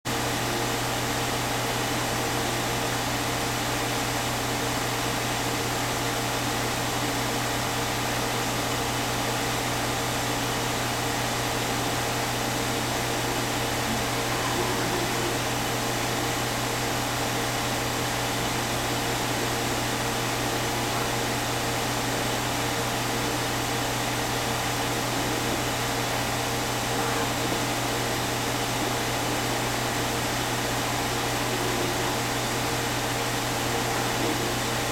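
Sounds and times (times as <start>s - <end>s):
machinery hum and hiss: 0.1s - 34.9s.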